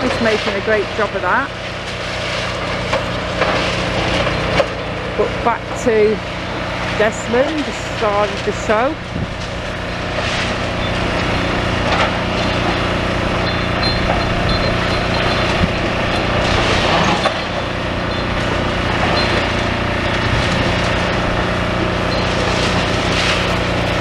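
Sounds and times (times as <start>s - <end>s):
excavator diesel engines running: 0.0s - 24.0s.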